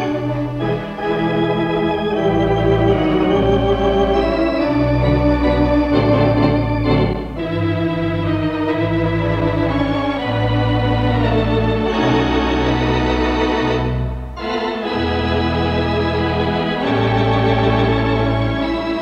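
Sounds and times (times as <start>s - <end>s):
theatre organ playing chords: 0.0s - 19.0s.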